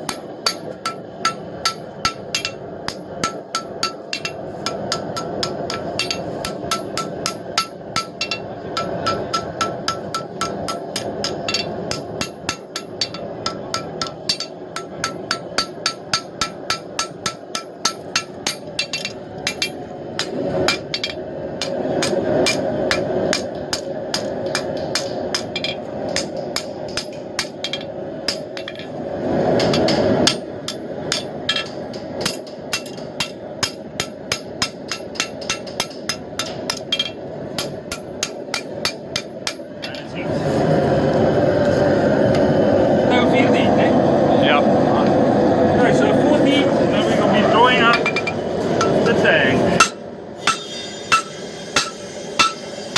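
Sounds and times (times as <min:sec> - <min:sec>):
hammer striking steel on anvil: 0:00.0 - 0:40.1, 0:47.8 - 0:49.2, 0:49.8 - 0:52.9
rushing noise: 0:03.6 - 0:52.9.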